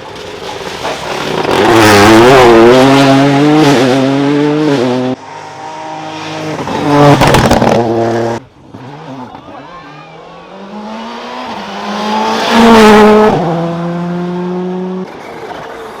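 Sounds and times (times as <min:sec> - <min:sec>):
rally car engine at full throttle: 0:00.0 - 0:16.0.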